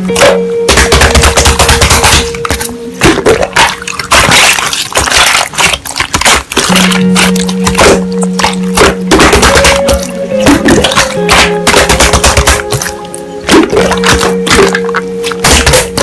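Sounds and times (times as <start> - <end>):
instrumental background music: 0.0 - 16.0
slime squished by hand: 0.0 - 16.0.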